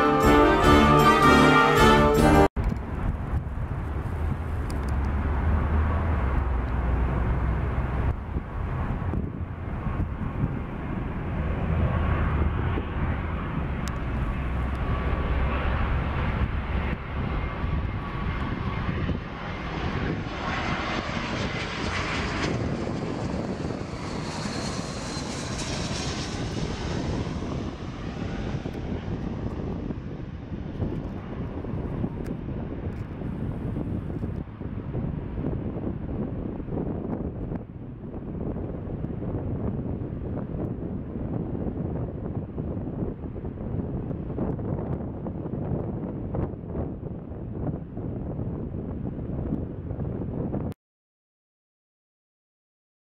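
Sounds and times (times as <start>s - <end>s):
high jet whine: 0.0s - 43.2s
jet engines on approach: 0.0s - 50.8s.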